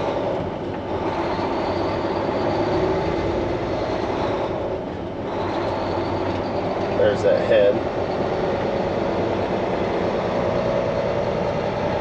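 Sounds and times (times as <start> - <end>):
road noise: 0.0 - 12.0
truck engine: 0.0 - 12.0.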